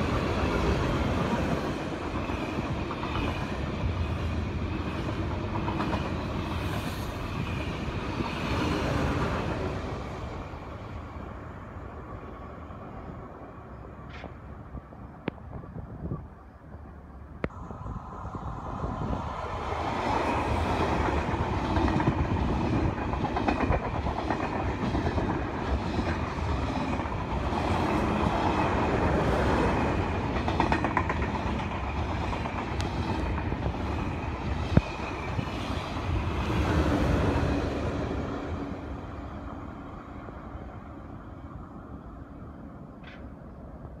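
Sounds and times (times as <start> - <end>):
high-speed train rushing past: 0.0 - 44.0.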